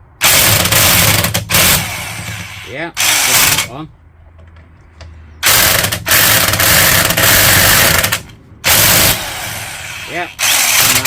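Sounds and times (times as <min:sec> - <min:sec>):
impact wrench hammering: 0:00.2 - 0:03.7, 0:05.4 - 0:11.0.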